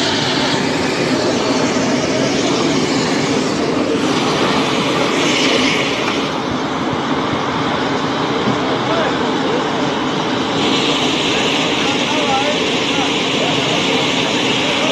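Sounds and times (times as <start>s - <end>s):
high pressure liquid spray rushing: 0.0s - 14.9s.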